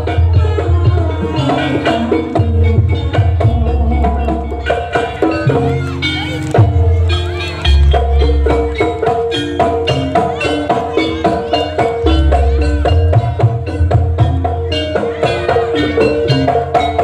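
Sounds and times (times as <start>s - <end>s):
drum strokes: 0.0s - 17.0s
metal-keyed instruments melody: 0.0s - 17.0s
tuned metal percussion: 0.0s - 17.0s.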